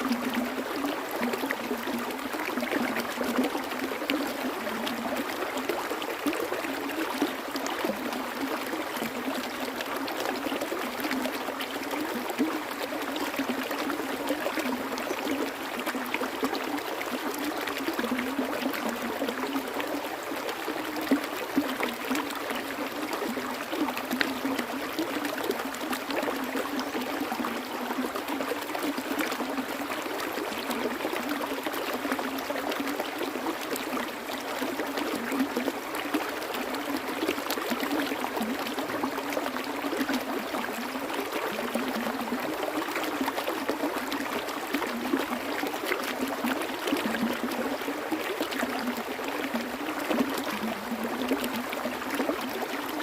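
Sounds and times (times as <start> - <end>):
stream gurgling and splashing: 0.0 - 53.0.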